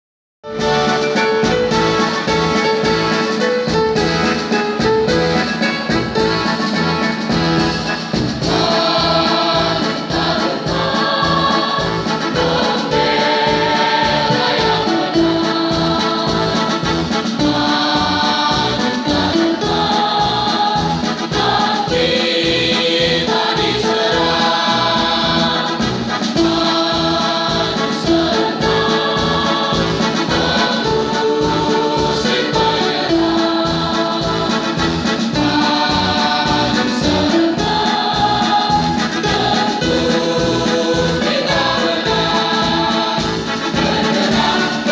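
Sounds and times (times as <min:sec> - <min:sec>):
electronic keyboard with steady beat: 0:00.5 - 0:44.9
choir singing sustained notes: 0:08.0 - 0:44.9.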